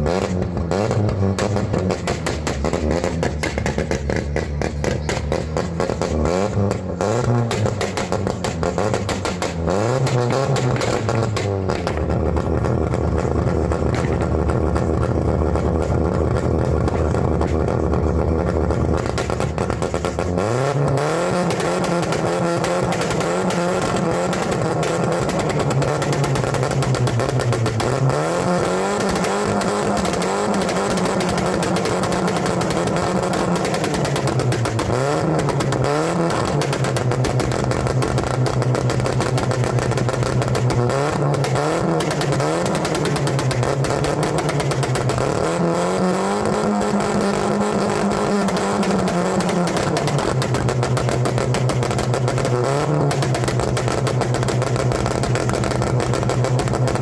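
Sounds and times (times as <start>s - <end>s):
car engine revving: 0.0s - 57.0s
exhaust pops and bangs: 0.0s - 57.0s.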